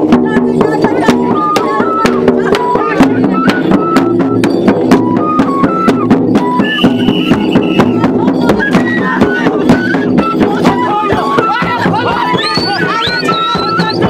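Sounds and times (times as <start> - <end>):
large drums beaten with sticks: 0.0 - 14.0
high melody of held notes: 0.8 - 14.0.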